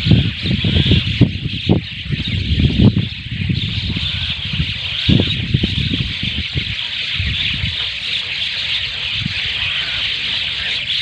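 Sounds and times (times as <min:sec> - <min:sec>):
low rumbling microphone noise: 0:00.0 - 0:10.7.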